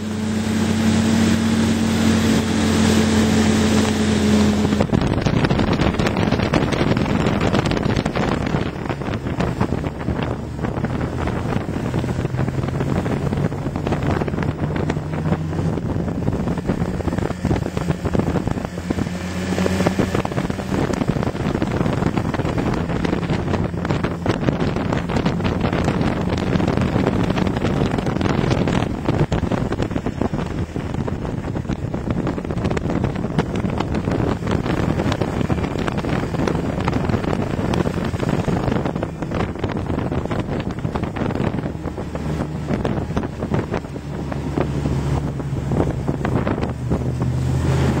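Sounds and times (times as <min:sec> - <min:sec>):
snowmobile engine running: 0:00.0 - 0:48.0
wind buffeting microphone: 0:00.0 - 0:48.0.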